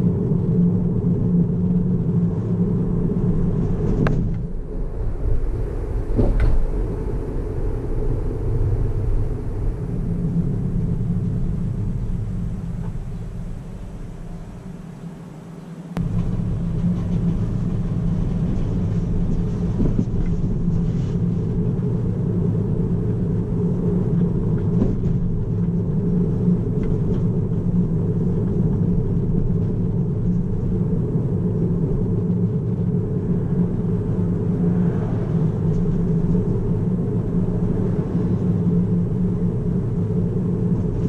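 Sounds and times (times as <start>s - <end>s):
tyre and road rumble: 0.0s - 41.0s.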